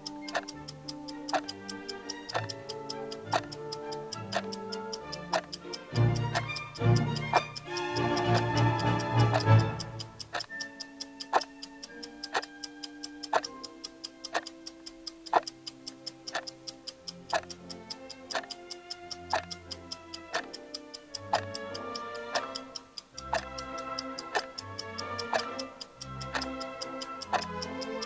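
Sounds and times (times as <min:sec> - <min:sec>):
clock ticking: 0:00.0 - 0:28.0
orchestral music with held notes: 0:00.0 - 0:28.0.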